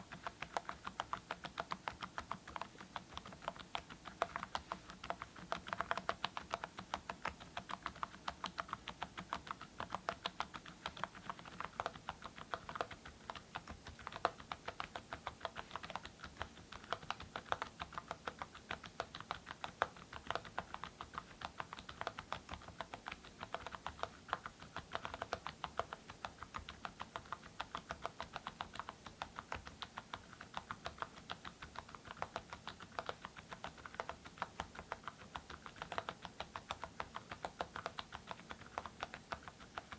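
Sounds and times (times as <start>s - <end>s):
keyboard keystroke clicks: 0.0s - 39.9s.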